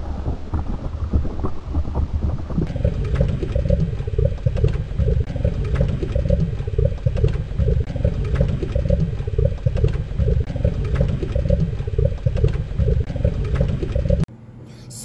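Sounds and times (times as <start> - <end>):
foam bubbling and popping: 0.0 - 14.3
heavy low rumble: 0.0 - 14.3.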